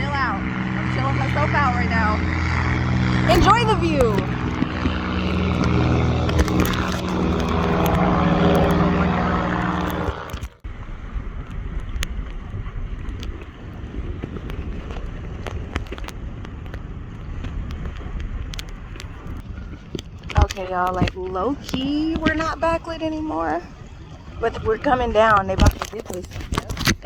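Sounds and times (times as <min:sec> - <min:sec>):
boat engine droning: 0:00.0 - 0:27.0
wind buffeting microphone: 0:00.0 - 0:27.0.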